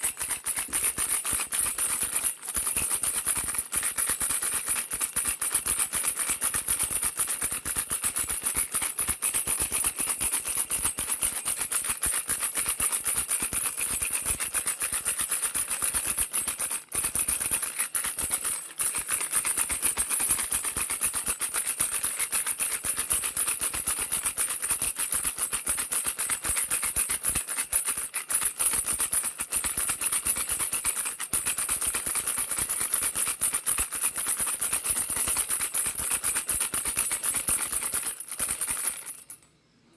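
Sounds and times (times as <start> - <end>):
baby rattle shaken rapidly: 0.0 - 39.5.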